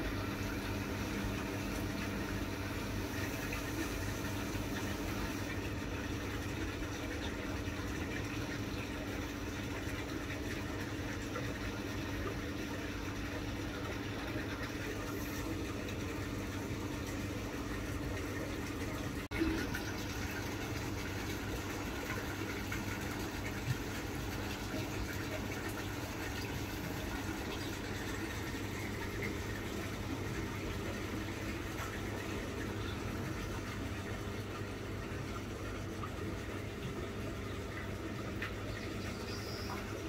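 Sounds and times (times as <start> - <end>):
faint water noise: 0.0 - 40.0
low mechanical hum: 0.0 - 40.0.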